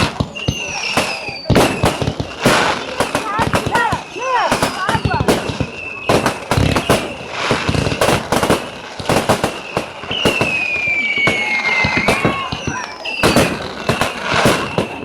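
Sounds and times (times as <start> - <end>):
fireworks bangs and crackles: 0.0 - 15.0
whistling firework falling in pitch: 0.0 - 15.0.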